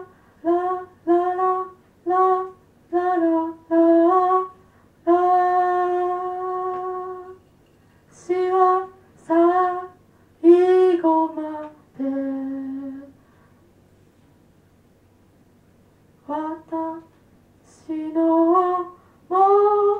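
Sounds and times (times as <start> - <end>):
woman singing unaccompanied: 0.0 - 7.5, 8.1 - 13.2, 16.2 - 19.9.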